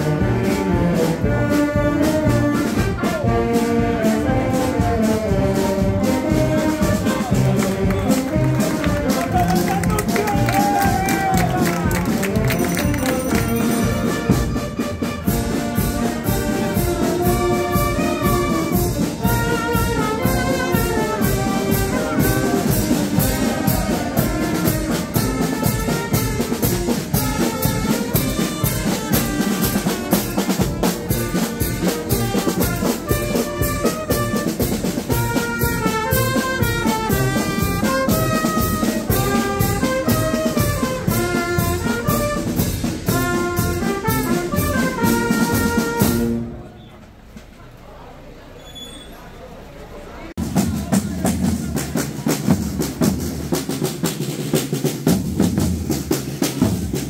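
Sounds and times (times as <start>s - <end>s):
brass band playing a march: 0.0s - 46.8s, 50.4s - 57.0s.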